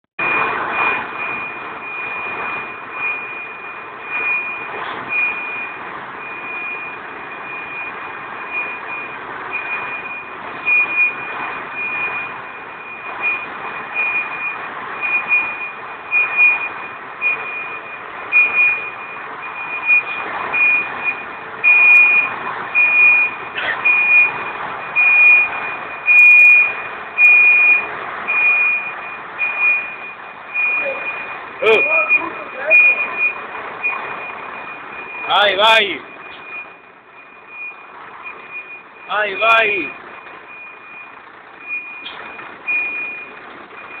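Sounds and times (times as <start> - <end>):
diesel engine running: 0.2 - 44.0
truck back-up alarm beeping: 0.2 - 44.0.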